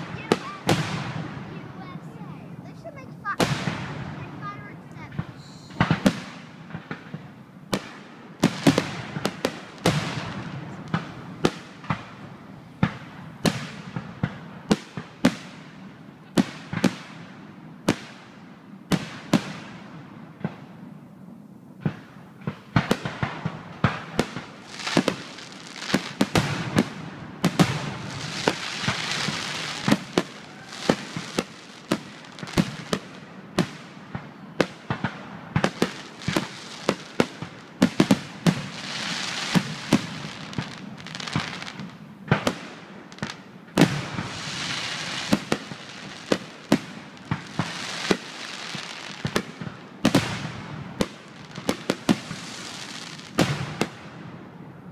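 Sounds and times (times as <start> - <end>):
fireworks crackling: 0.0 - 21.0, 21.8 - 54.9
fireworks bursting with bangs: 0.0 - 54.9.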